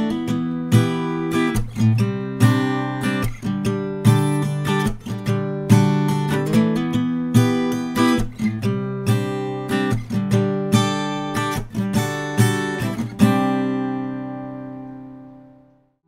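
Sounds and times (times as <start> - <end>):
acoustic guitar strumming chords: 0.0 - 15.9.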